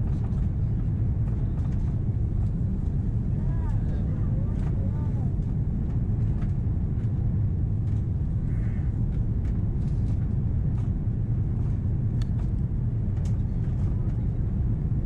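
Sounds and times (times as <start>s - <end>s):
airplane cabin roar: 0.0s - 15.0s.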